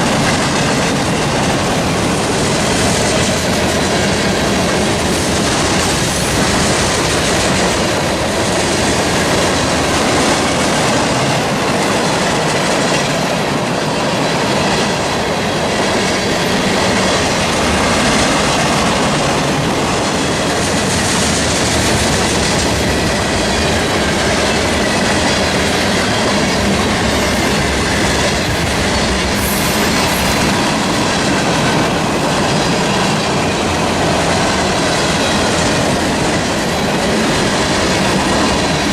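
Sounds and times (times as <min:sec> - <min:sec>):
freight train rolling past: 0:00.0 - 0:38.9
wheels clickety-clack over rail joints: 0:00.0 - 0:38.9.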